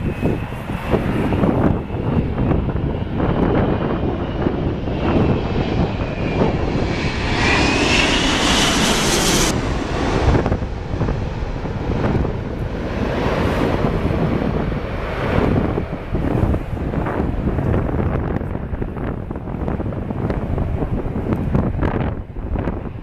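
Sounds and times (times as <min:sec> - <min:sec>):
jet engines high whine: 0:00.0 - 0:23.0
low rumble: 0:00.0 - 0:23.0
wind buffeting microphone: 0:00.0 - 0:23.0.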